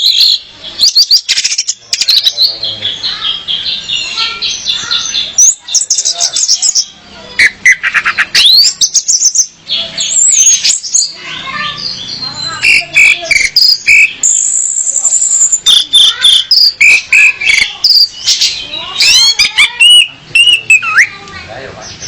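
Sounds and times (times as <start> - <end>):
thrush calling with chirps and trills: 0.0 - 22.0.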